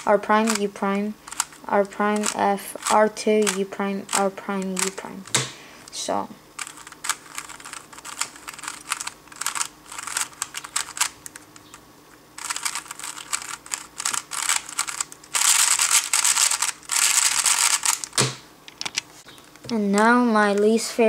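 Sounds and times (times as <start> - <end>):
puzzle cube plastic clicks: 0.3 - 0.7, 1.3 - 5.5, 6.6 - 11.8, 12.4 - 19.8.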